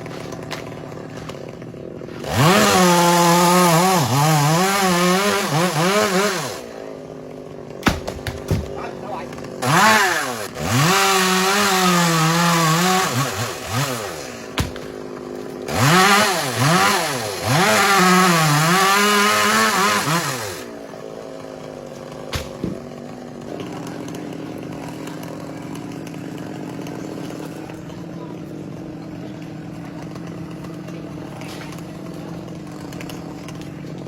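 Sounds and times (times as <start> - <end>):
chainsaw revving and idling: 0.0 - 34.0.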